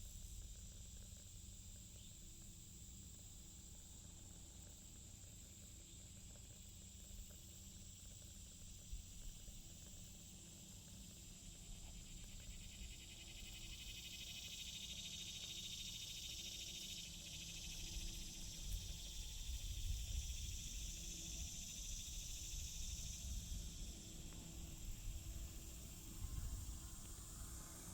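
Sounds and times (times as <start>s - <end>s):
insects trilling: 0.0s - 27.9s.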